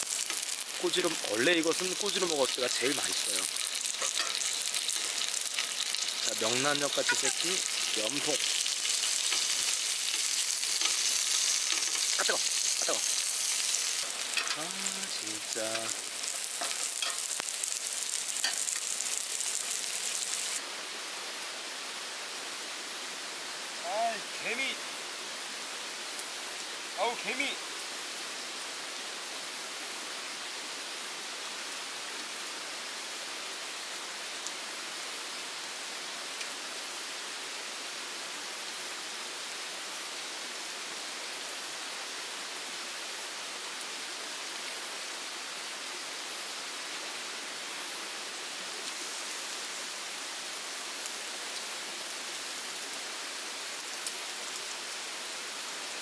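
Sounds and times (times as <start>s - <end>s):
dense insect hiss: 0.0s - 56.0s.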